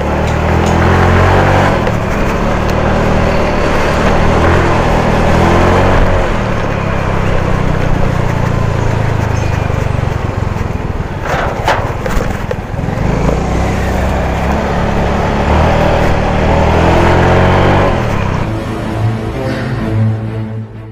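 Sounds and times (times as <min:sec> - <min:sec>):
scooter engine running: 0:00.0 - 0:18.6
road and wind noise: 0:00.0 - 0:20.9.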